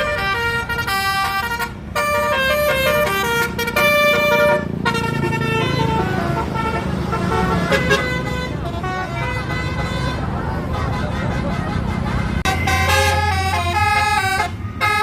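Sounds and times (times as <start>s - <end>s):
bus horn melody: 0.0s - 15.0s.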